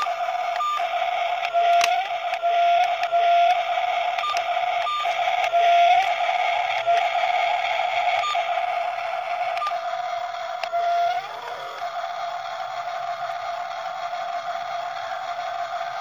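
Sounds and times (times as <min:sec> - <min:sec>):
toy electric motors whining: 0:00.0 - 0:16.0.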